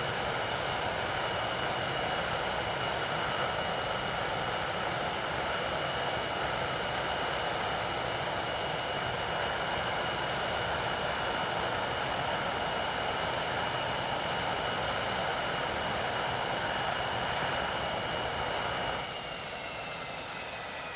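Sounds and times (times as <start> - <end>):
jet engines whining: 0.0 - 20.9.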